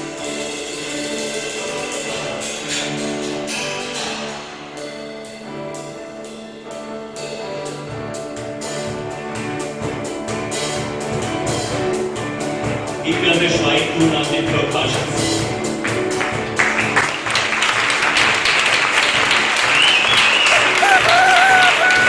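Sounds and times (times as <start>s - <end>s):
instrumental music with beat: 0.0s - 22.0s.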